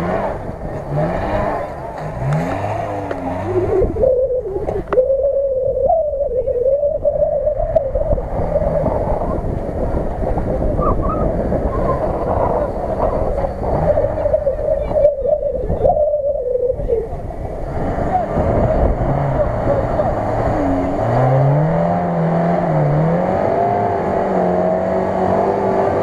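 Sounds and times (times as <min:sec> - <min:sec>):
off-road vehicle engine whining: 0:00.0 - 0:26.0.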